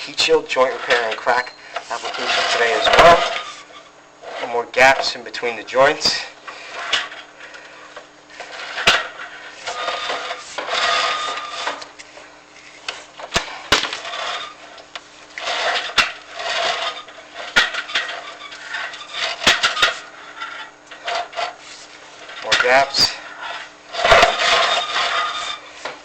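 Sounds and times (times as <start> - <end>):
camera scraping flue walls: 0.2 - 5.2, 5.9 - 26.0.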